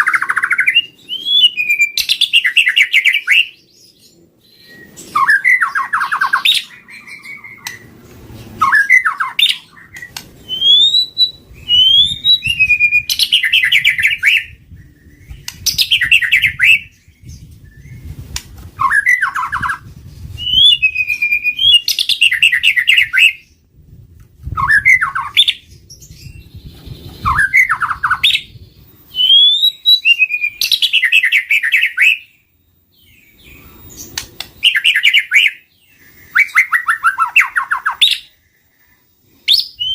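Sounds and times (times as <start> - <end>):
bird singing whistles and trills: 0.0 - 23.7, 24.4 - 39.9.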